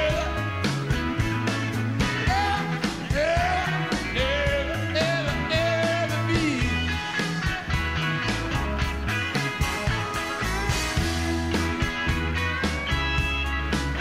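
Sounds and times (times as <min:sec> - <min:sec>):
rock music: 0:00.0 - 0:14.0.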